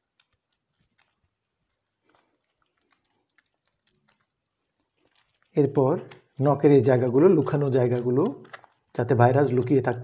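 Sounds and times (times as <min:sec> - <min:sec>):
soapy hands squelching: 0:00.0 - 0:10.0.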